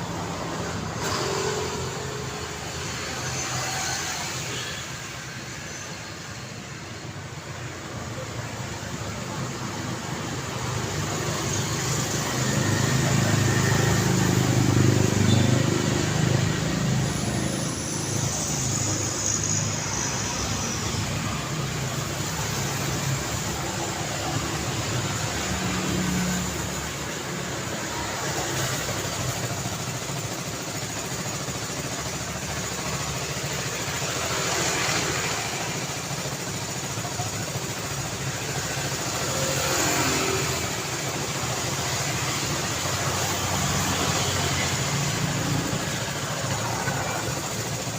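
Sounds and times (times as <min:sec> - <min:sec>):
vehicle engine passing close: 0:00.0 - 0:04.5, 0:09.2 - 0:47.9
street traffic: 0:00.0 - 0:47.9.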